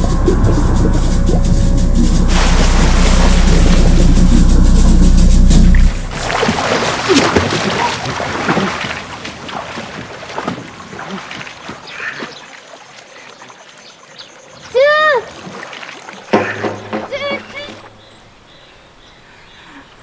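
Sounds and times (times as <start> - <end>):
water splashing and sloshing: 0.0 - 18.5.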